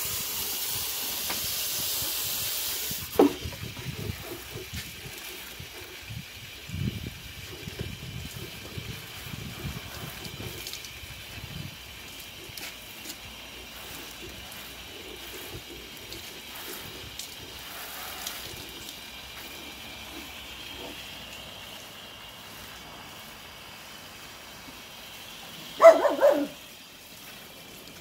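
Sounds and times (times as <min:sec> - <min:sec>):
hose water spraying on plants: 0:00.0 - 0:28.0.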